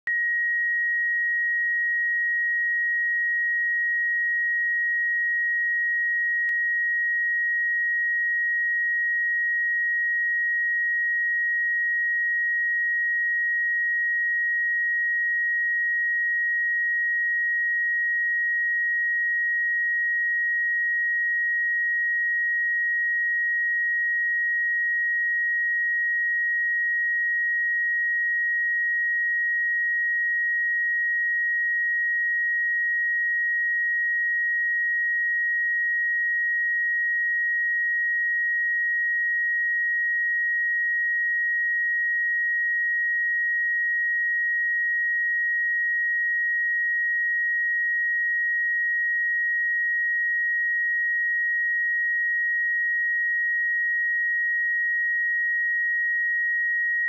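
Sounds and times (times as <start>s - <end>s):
sine-wave test tone: 0.0s - 57.0s.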